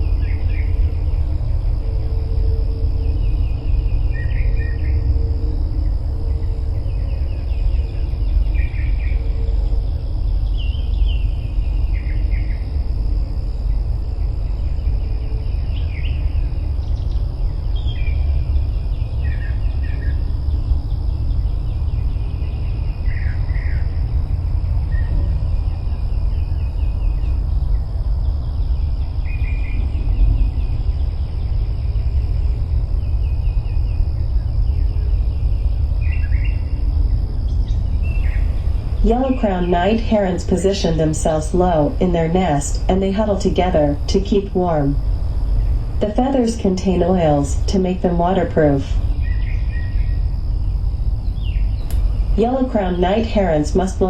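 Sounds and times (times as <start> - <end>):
high insect drone: 0.0 - 54.0
wind rumbling on microphone: 0.0 - 54.0.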